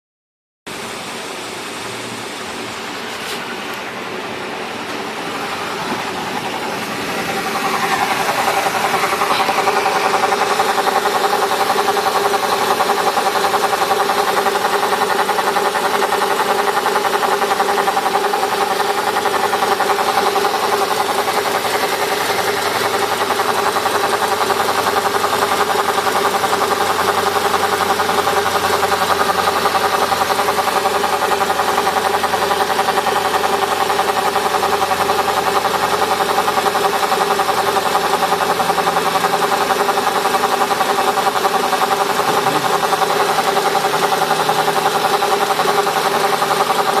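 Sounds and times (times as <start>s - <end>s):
car engine running steady buzz: 0.7s - 47.0s.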